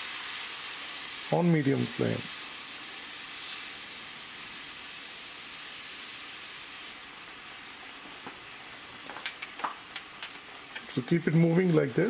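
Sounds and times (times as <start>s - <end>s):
sauce bubbling in a pan: 0.0s - 11.0s.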